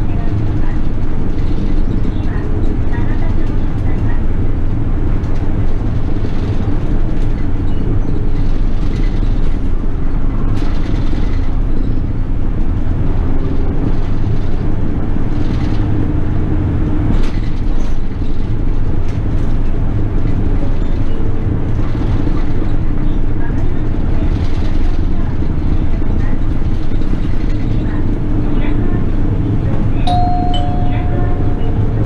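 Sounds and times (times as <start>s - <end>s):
bus engine rumbling: 0.0s - 32.0s.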